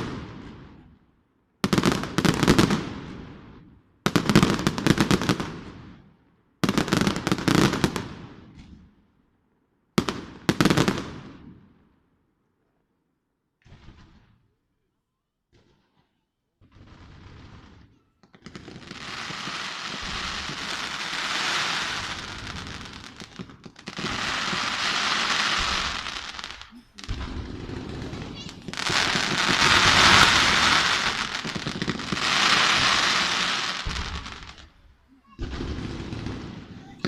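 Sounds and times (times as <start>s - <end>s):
fireworks crackling and popping: 0.0s - 0.9s, 1.6s - 6.0s, 6.6s - 8.9s, 10.0s - 11.6s, 15.5s - 37.0s.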